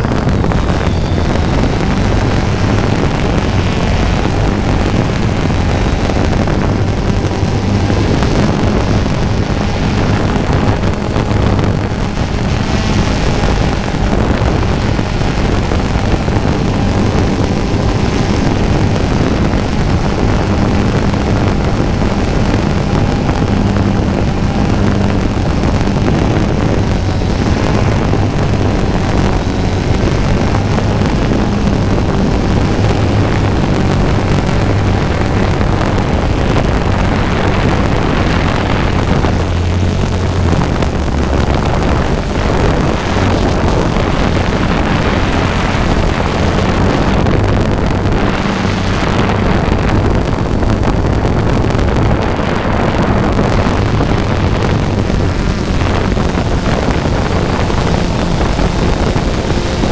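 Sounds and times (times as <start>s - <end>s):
drone propellers humming: 0.0s - 59.9s
wind noise on microphone: 0.0s - 59.9s.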